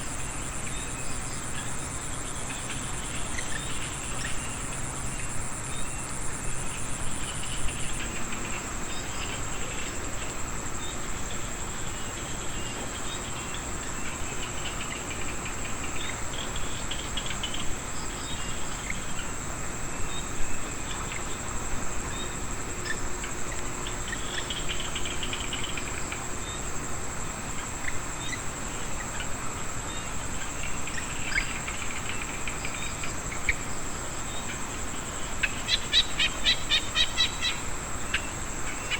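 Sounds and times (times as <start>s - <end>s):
frog and insect chirps: 0.0s - 38.9s
high insect drone: 0.0s - 38.9s.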